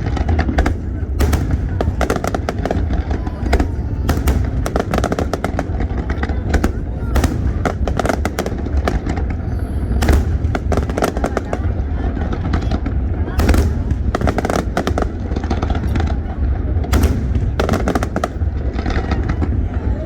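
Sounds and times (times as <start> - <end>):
deep rumble: 0.0 - 20.0
fireworks bangs and crackling: 0.0 - 20.0.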